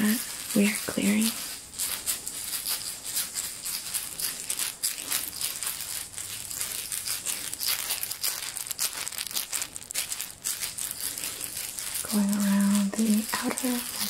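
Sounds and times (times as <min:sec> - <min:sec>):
handheld rattle shaken: 0:00.0 - 0:14.0.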